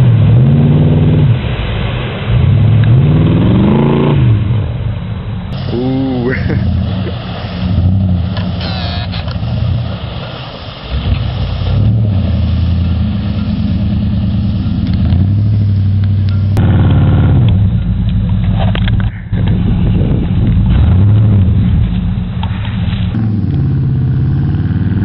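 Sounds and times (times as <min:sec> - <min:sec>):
truck engine revving: 0:00.0 - 0:25.0
water splashing through mud: 0:00.0 - 0:25.0.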